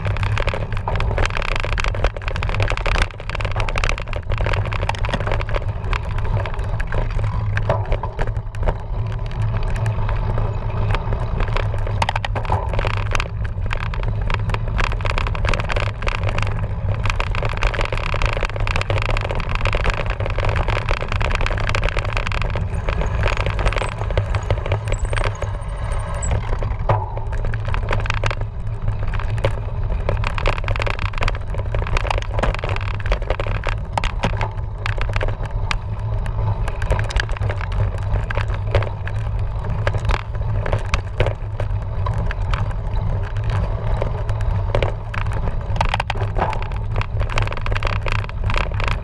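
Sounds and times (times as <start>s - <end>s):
bike rattling over rough ground: 0.0s - 49.0s.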